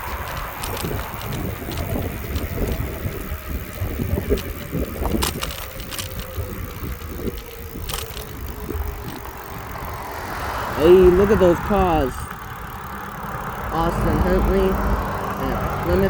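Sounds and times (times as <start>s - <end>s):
bicycle tyre rumble on pavement: 0.0s - 16.0s
bike clicks and knocks: 0.0s - 16.0s.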